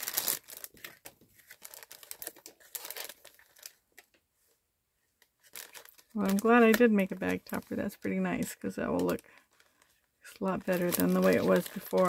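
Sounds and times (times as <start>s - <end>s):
plastic bag crinkling: 0.0s - 4.1s, 5.4s - 12.0s.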